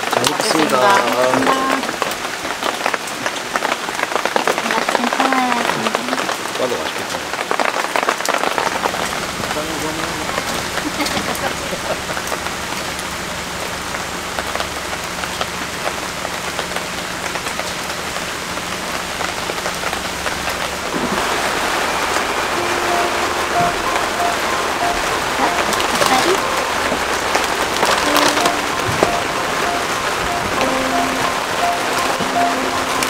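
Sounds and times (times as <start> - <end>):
heavy rain falling: 0.0 - 33.0
raindrops ticking close by: 0.0 - 33.0.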